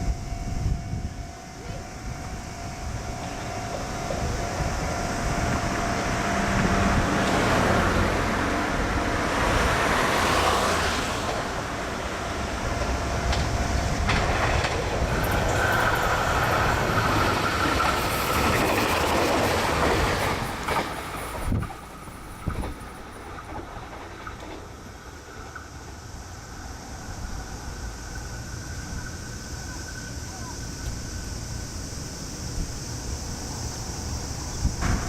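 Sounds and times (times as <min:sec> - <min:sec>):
train running past: 0:00.0 - 0:35.0.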